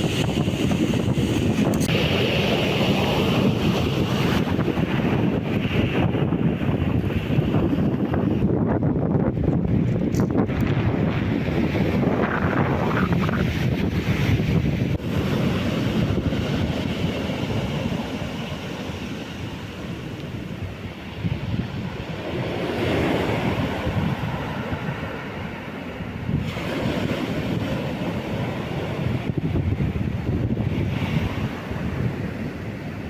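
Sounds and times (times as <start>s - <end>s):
surf breaking on beach: 0.0s - 8.4s, 10.0s - 33.0s
wind buffeting microphone: 0.0s - 33.0s.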